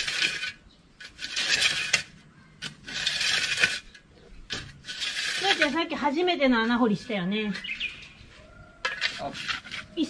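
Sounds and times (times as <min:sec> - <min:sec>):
spade scraping stony soil: 0:00.0 - 0:10.0.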